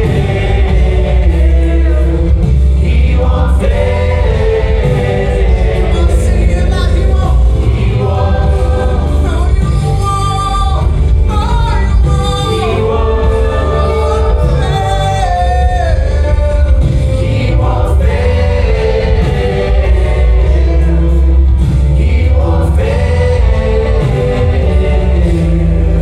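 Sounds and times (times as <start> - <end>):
band with bass and drums: 0.0 - 26.0
group of singers: 0.0 - 26.0.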